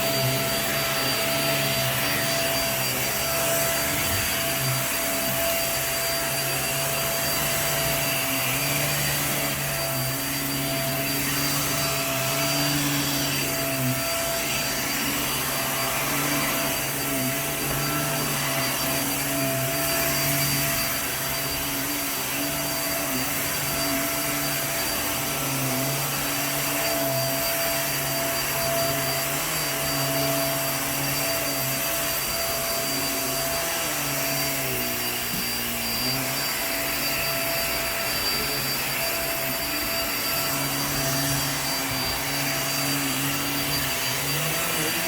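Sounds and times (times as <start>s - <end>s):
vacuum cleaner running on carpet: 0.0s - 45.0s.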